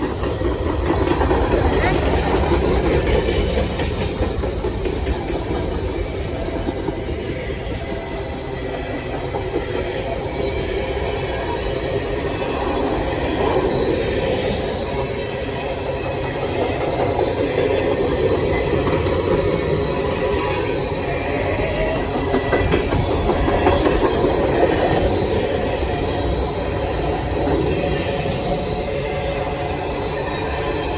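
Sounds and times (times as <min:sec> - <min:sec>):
train wheels rumbling and clacking: 0:00.0 - 0:30.9.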